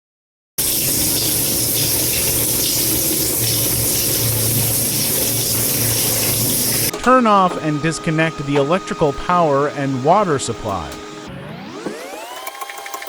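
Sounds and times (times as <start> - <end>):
water rushing into washing machine: 0.6 - 7.8, 8.4 - 13.0.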